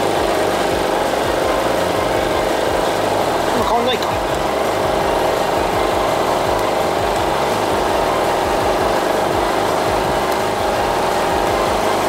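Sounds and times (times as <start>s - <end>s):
generator engine running steadily: 0.0s - 12.0s.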